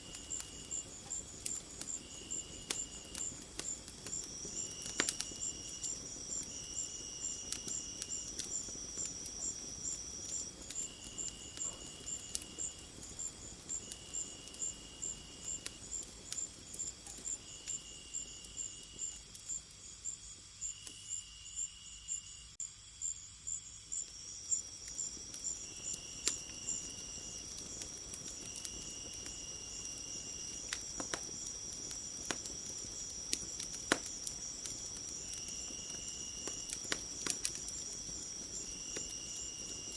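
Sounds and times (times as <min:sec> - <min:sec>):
wood fire crackling: 0:00.0 - 0:21.0, 0:24.1 - 0:39.9
crickets chirping: 0:00.0 - 0:39.9
lower insect call: 0:00.0 - 0:39.9.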